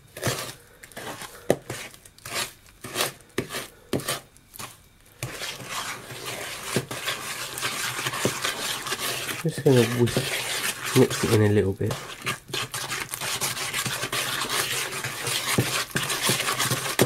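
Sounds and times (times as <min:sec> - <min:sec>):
wooden spoon beating batter in bowl: 0:00.2 - 0:17.0.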